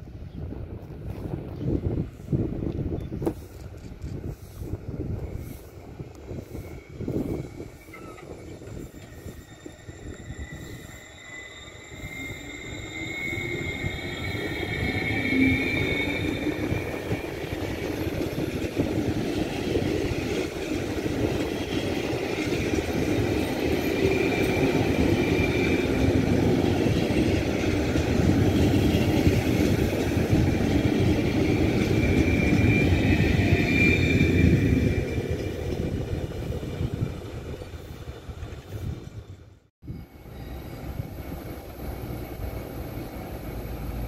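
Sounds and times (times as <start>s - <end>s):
high train whine: 0.0s - 44.0s.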